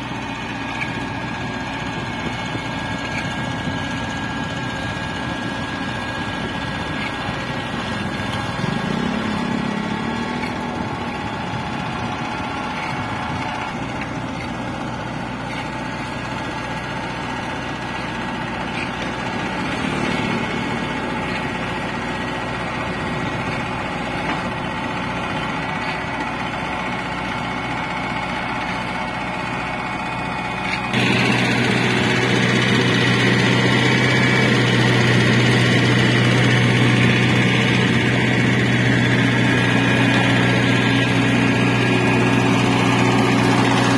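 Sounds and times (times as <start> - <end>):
asphalt finisher engine running: 0.0 - 43.9.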